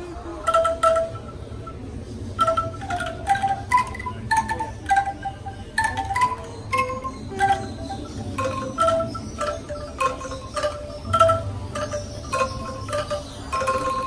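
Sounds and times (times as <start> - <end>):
wind chimes ringing: 0.5 - 14.0.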